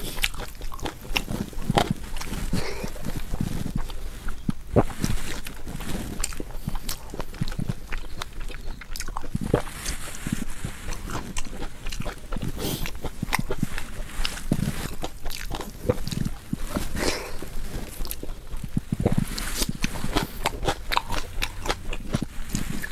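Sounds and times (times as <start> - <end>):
mouth smacks and clicks: 0.0 - 22.9
person chewing: 0.0 - 22.9.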